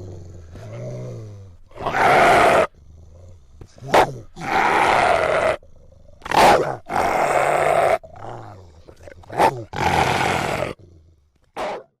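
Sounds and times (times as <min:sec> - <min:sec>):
dog growling aggressively: 0:00.0 - 0:12.0.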